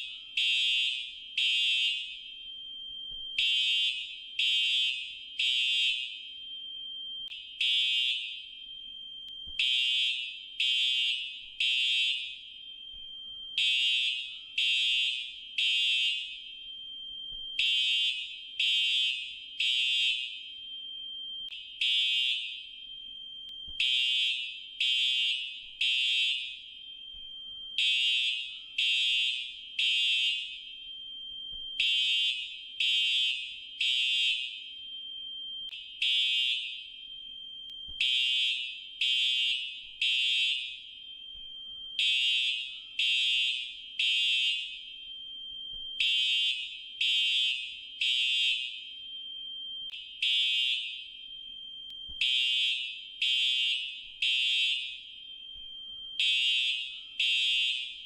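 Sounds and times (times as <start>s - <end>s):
fire alarm beeping: 0.0s - 58.0s.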